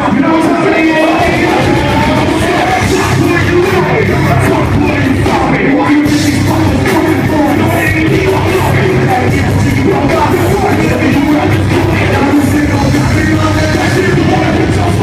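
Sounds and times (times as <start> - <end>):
loud rock concert music: 0.0 - 15.0
vocalist singing and yelling: 0.0 - 15.0.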